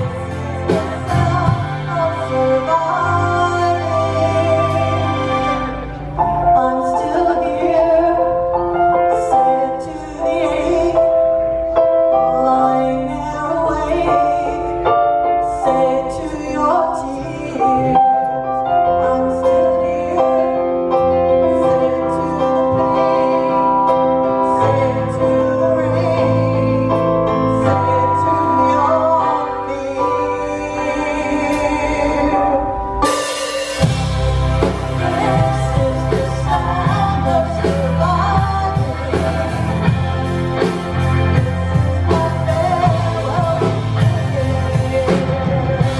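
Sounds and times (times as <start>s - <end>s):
woman singing: 0.0s - 5.5s, 6.2s - 32.8s, 34.6s - 45.9s
keyboard or piano: 0.0s - 45.9s
live band playing: 0.0s - 45.9s.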